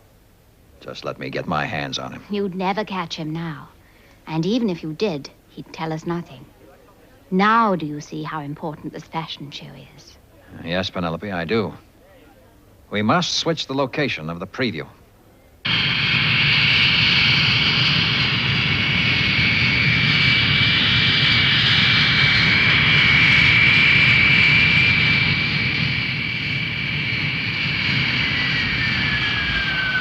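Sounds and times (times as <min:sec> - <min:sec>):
jet engines whining: 0:00.8 - 0:11.6, 0:15.7 - 0:30.0.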